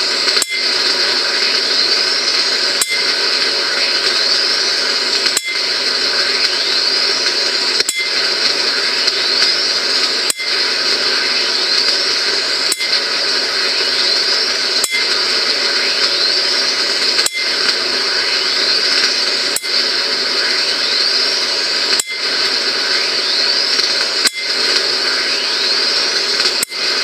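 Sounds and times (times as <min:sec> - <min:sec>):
high-voltage discharge hiss: 0:00.0 - 0:27.0
sharp electrical click: 0:00.0 - 0:27.0
thin rising whine: 0:00.0 - 0:27.0.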